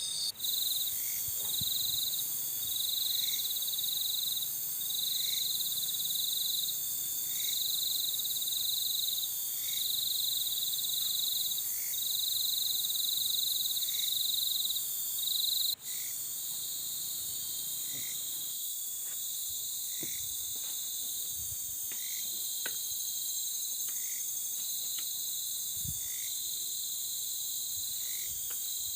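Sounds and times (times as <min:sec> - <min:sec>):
insect chirring: 0:00.0 - 0:28.9
insects buzzing: 0:00.0 - 0:28.9.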